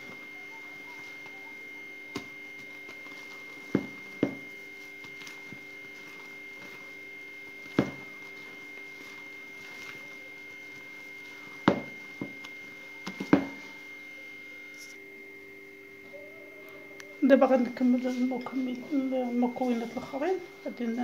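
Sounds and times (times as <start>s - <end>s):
thin high whine: 0.0s - 21.0s.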